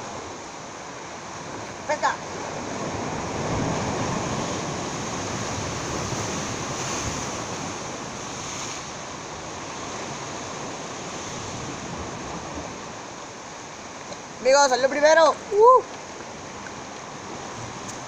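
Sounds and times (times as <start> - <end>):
surf washing against rocks: 0.0 - 18.0.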